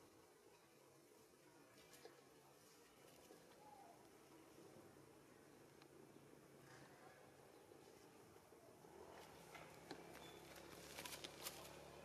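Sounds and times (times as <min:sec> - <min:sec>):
faint background hiss: 0:00.0 - 0:12.0
faint low hum: 0:00.0 - 0:12.0.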